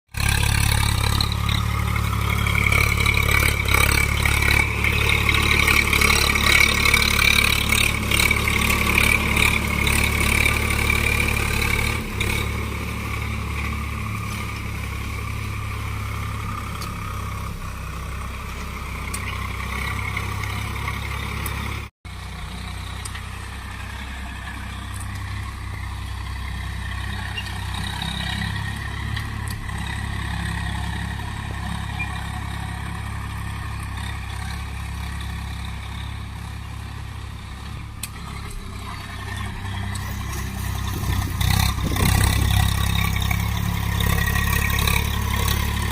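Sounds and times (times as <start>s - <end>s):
tractor engine running: 0.1s - 45.9s.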